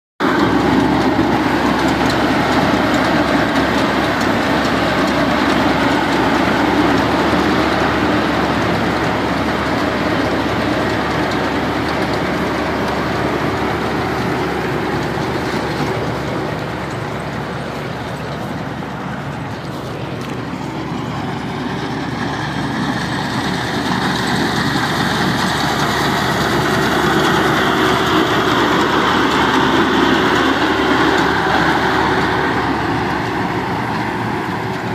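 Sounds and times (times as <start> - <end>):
combine harvester engine drone: 0.2 - 34.9.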